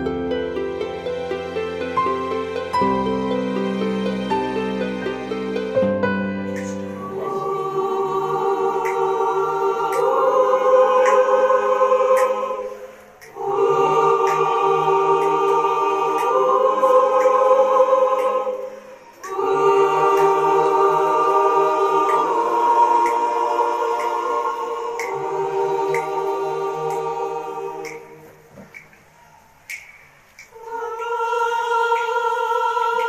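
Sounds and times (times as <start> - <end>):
choir singing a hymn: 0.0 - 29.6, 30.4 - 33.0.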